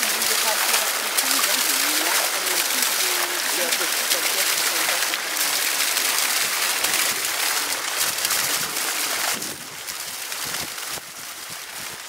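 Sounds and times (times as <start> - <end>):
geyser spouting and splashing: 0.0 - 12.0.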